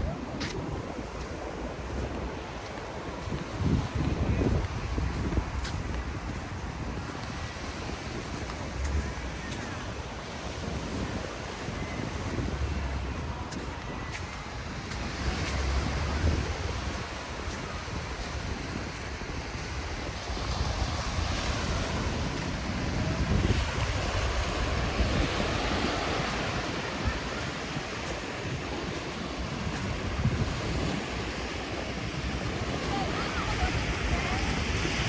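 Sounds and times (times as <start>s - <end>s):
waves washing on sandy beach: 0.0s - 35.0s
wind buffeting microphone: 0.0s - 35.0s.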